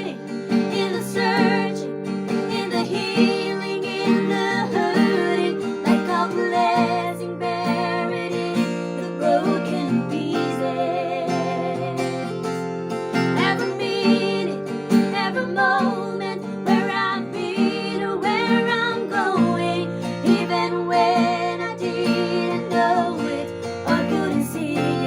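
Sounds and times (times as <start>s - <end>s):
strummed acoustic guitar: 0.0s - 25.0s
women singing with vibrato: 0.0s - 25.0s.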